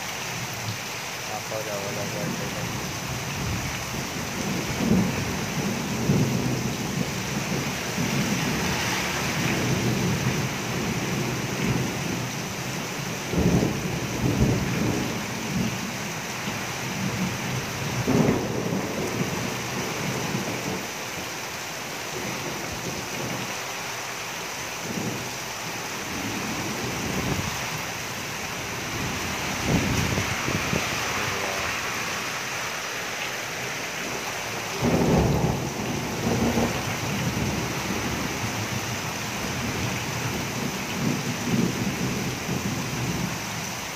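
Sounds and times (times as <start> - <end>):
heavy rain hissing: 0.0 - 43.9.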